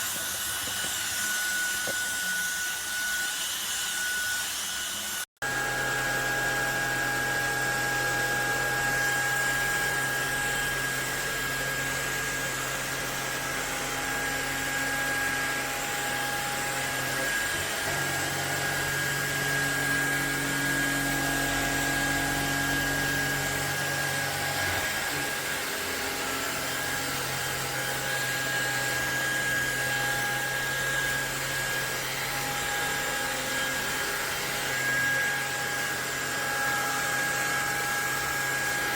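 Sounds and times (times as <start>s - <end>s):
vacuum cleaner whirring: 0.0s - 38.9s.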